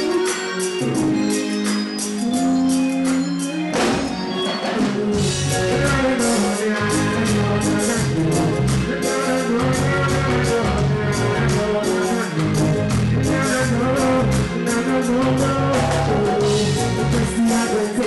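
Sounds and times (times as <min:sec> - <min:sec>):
live reggae band music: 0:00.0 - 0:18.0.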